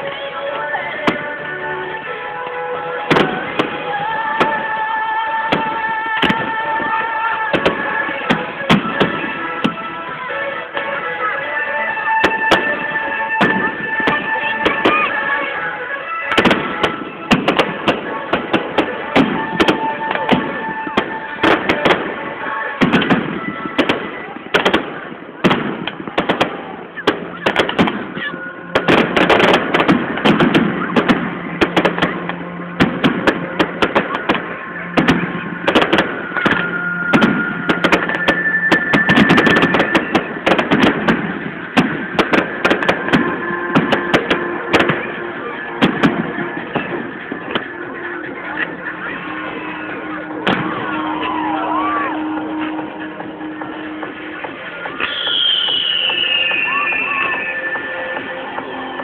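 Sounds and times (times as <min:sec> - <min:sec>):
fireworks bangs and crackles: 0:00.0 - 0:59.0
music playing: 0:00.0 - 0:59.0.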